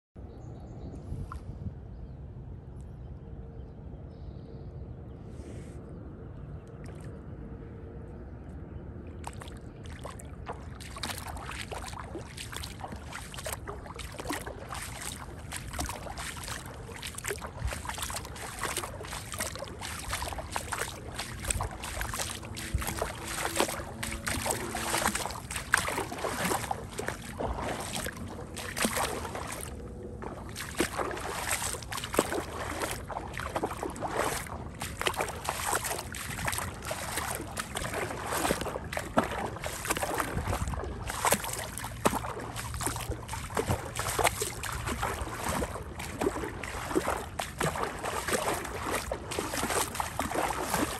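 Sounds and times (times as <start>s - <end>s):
footsteps splashing through water: 6.7s - 7.2s, 9.1s - 50.9s
running water: 9.2s - 50.9s.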